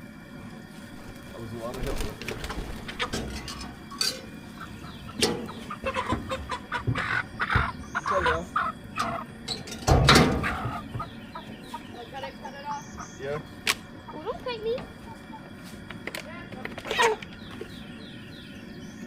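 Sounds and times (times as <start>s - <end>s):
chickens clucking and squawking: 0.1s - 16.0s, 16.6s - 19.0s.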